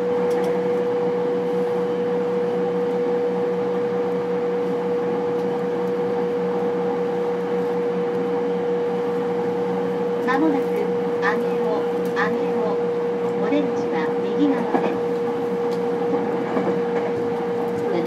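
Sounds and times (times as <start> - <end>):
constant whine: 0.0 - 18.0
train car electrical hum: 0.0 - 18.0.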